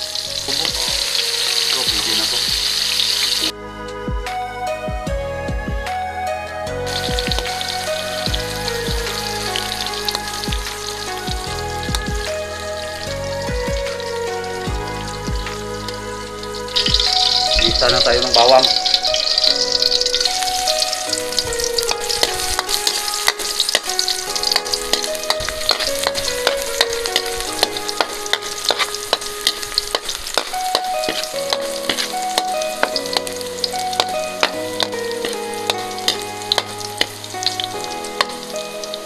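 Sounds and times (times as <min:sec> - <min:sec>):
garlic sizzling in hot oil: 0:00.0 - 0:03.5, 0:06.9 - 0:39.0
background melody of held notes: 0:00.0 - 0:39.0.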